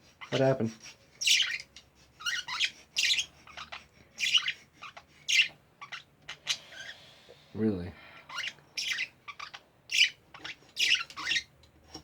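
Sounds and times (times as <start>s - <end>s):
budgies chirping and squawking: 0.0s - 7.3s, 8.0s - 12.0s.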